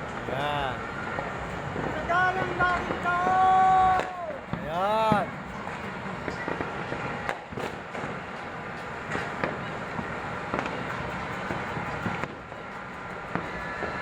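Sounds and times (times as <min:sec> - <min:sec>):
firecrackers crackling: 0:00.0 - 0:14.0
fireworks pops and bangs: 0:00.1 - 0:14.0.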